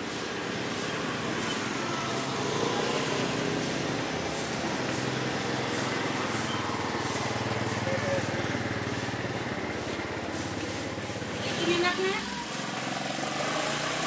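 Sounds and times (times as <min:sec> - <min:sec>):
street traffic: 0:00.0 - 0:14.0
small motorcycle engine running: 0:00.1 - 0:14.0.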